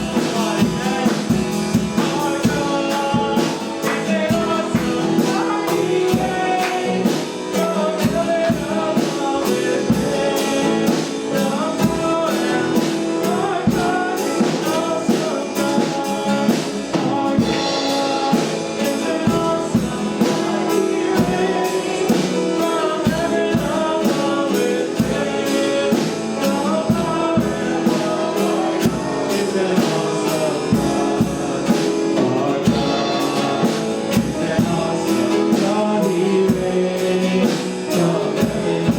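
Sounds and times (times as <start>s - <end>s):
band playing worship song: 0.0s - 38.9s
drum kit beat: 0.0s - 38.9s
singing: 0.0s - 38.9s.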